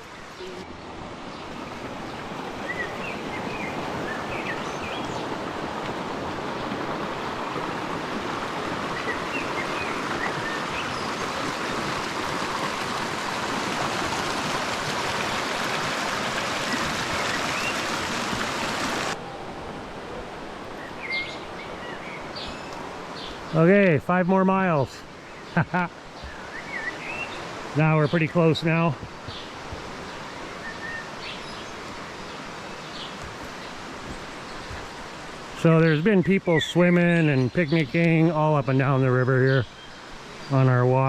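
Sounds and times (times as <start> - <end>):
river rushing over rocks: 0.0 - 23.9, 26.0 - 38.7.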